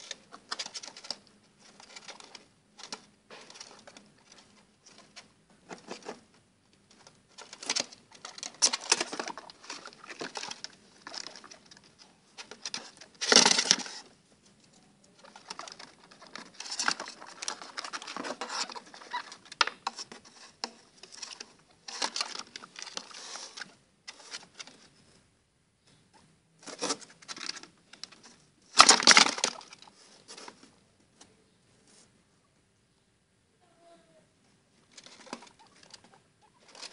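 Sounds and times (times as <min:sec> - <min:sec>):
guinea pigs rustling in box: 0:00.0 - 0:25.2, 0:26.6 - 0:31.2, 0:34.7 - 0:36.9.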